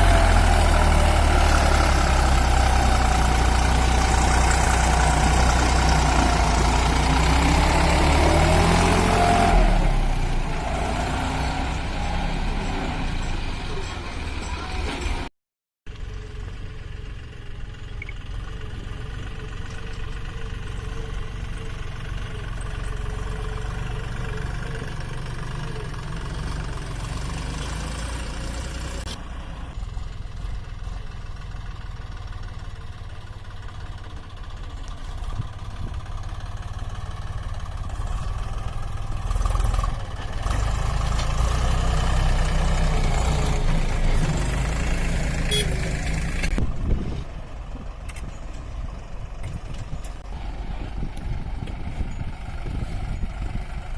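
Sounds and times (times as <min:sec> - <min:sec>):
heavy diesel engine running: 0:00.0 - 0:15.3, 0:15.9 - 0:53.9.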